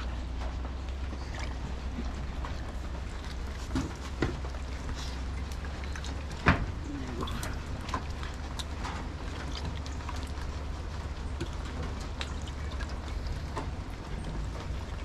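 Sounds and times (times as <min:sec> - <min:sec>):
steady low rumble: 0:00.0 - 0:15.0
water splashing and sloshing: 0:00.0 - 0:15.0.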